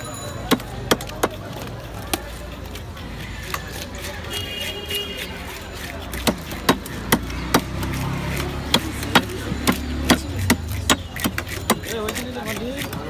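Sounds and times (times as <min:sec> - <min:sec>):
fish scales scraping on blade: 0:02.1 - 0:13.0.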